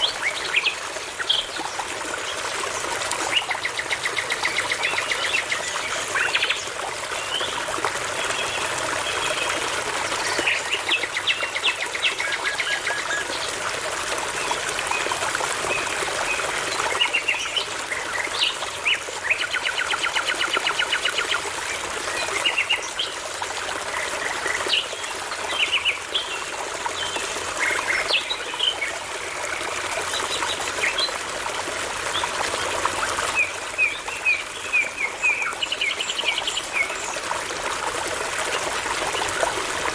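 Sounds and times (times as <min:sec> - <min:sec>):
brook trickling: 0:00.0 - 0:39.9.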